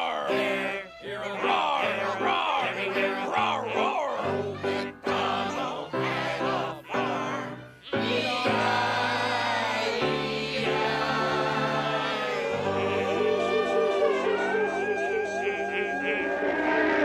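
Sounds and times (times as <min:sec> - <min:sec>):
group singing: 0:00.0 - 0:17.0.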